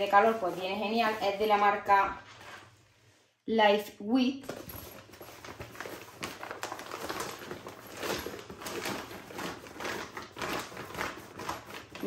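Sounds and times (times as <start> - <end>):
cooler bag rustling and crinkling: 0.0 - 2.8, 4.4 - 12.0.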